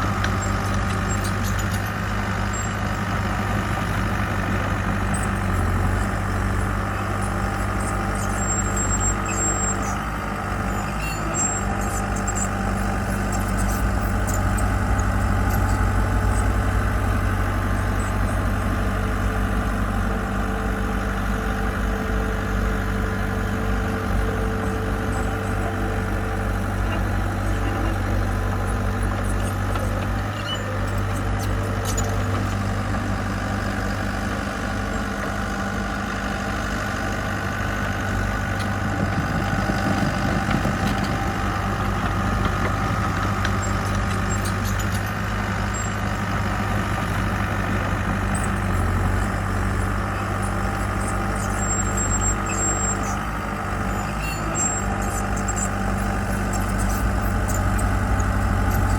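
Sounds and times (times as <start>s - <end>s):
diesel engine droning: 0.0s - 58.9s.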